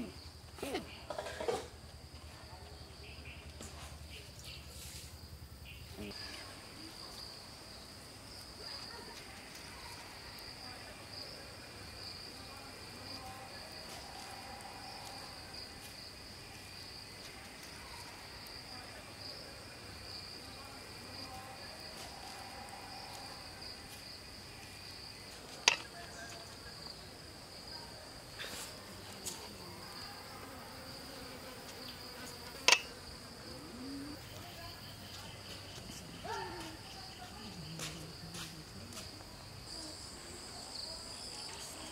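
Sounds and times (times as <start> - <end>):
insects chirring: 0.0 - 41.9.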